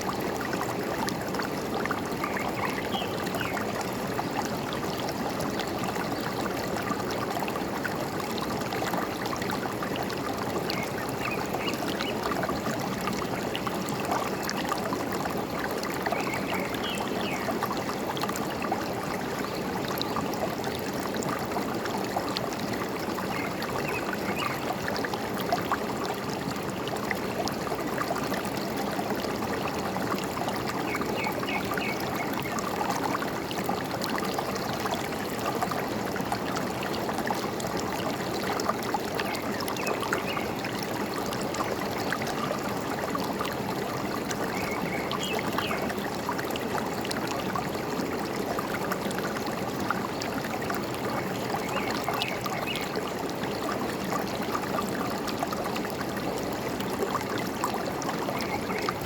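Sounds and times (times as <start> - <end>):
stream water rushing and trickling: 0.0 - 59.0.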